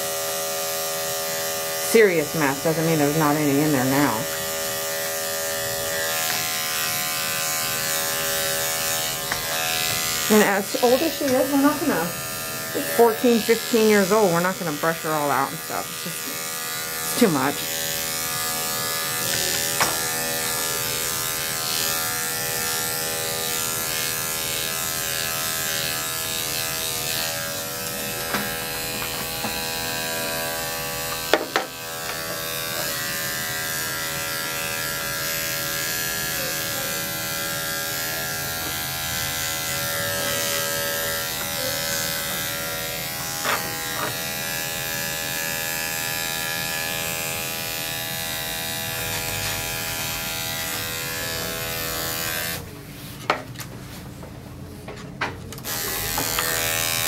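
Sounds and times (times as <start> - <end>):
electric clippers humming: 0.0 - 52.8, 55.6 - 57.0.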